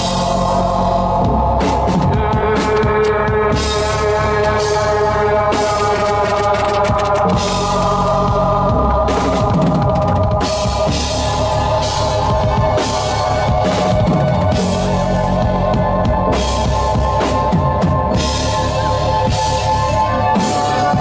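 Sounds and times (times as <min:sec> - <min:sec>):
drum kit playing: 0:00.0 - 0:21.0.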